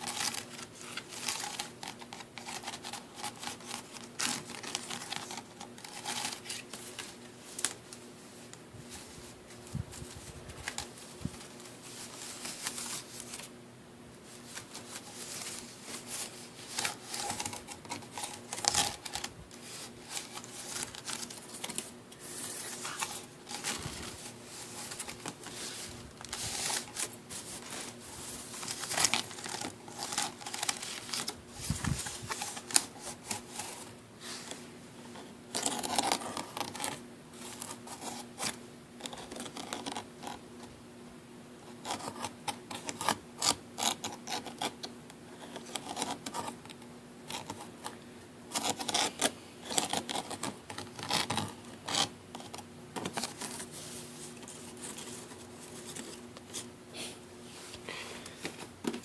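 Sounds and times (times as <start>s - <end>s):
scratching on wicker basket: 0.0s - 13.5s, 14.2s - 40.4s, 47.3s - 56.7s.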